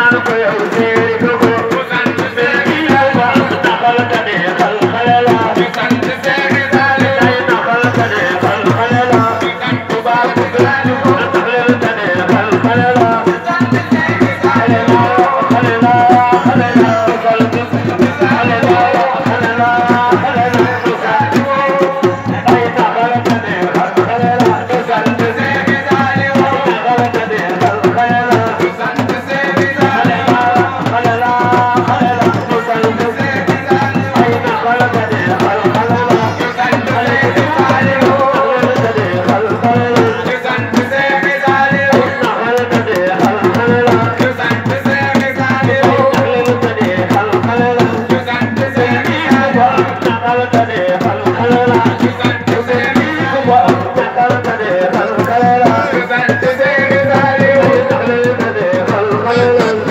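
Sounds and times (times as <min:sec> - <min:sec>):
fast hand-drum playing: 0:00.0 - 0:59.9
person singing: 0:00.0 - 0:59.9.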